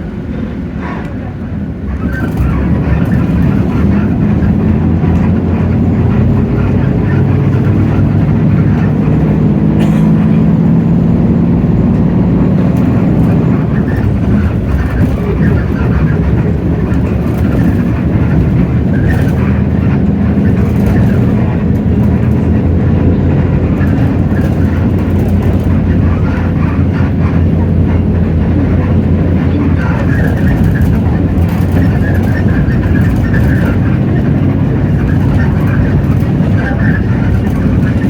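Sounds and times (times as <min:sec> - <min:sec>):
bus diesel engine drone: 0:00.0 - 0:38.0
road and body noise: 0:00.0 - 0:38.0.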